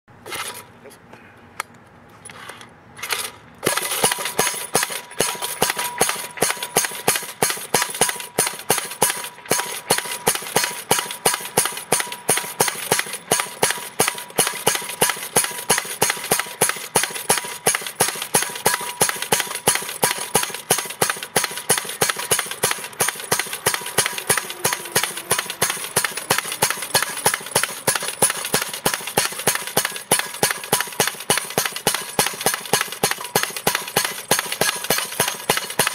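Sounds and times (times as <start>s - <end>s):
post driver hammering steel post: 3.6s - 35.9s.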